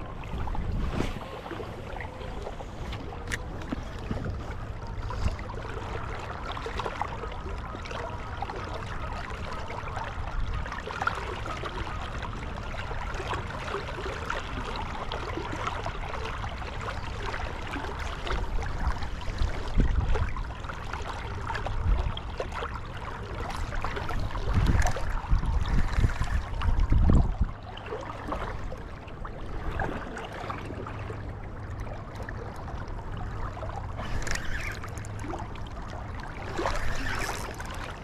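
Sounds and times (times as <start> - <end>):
wind rumbling on microphone: 0.0 - 13.1, 14.5 - 38.0.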